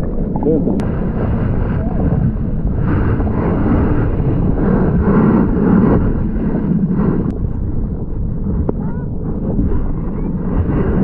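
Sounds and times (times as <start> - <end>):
muffled underwater surf rumble: 0.0 - 11.0.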